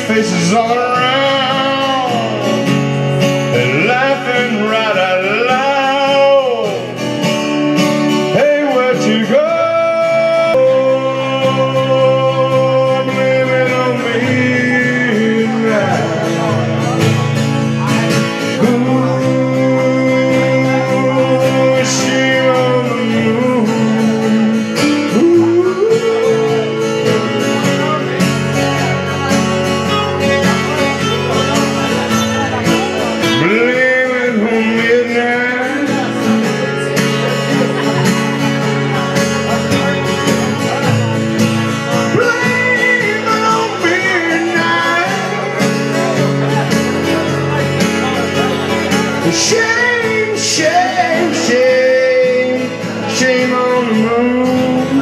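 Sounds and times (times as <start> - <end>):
acoustic guitars playing: 0.0 - 55.0
man singing: 0.0 - 55.0.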